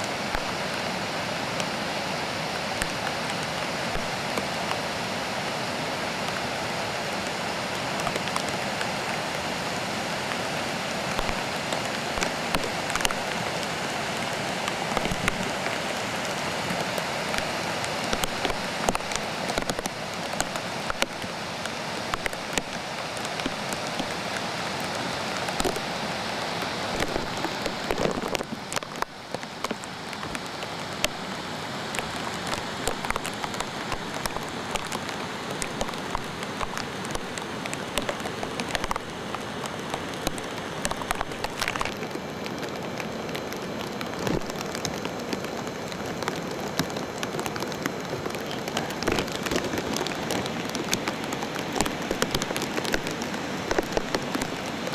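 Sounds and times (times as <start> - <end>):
raindrops ticking near microphone: 0.0 - 54.9
steady rain: 0.0 - 54.9.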